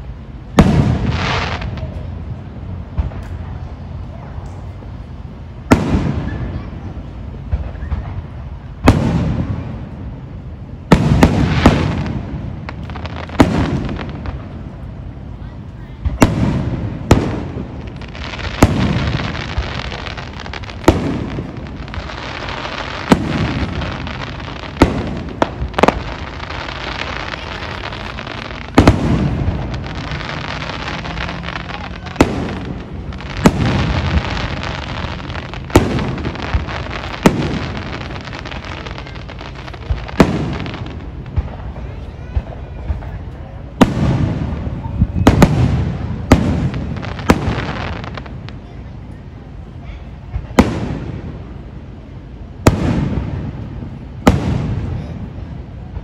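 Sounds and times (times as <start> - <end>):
fireworks bursting with bangs: 0.0 - 56.0
fireworks crackling: 0.0 - 56.0.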